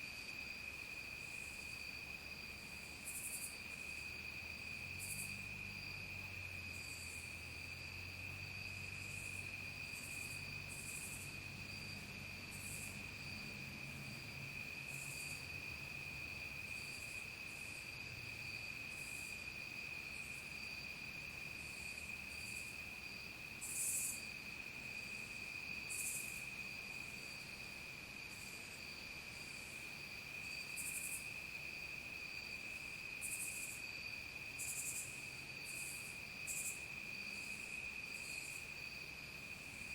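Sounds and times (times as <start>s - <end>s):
crickets trilling: 0.0s - 39.9s
insect chirps: 0.0s - 39.9s.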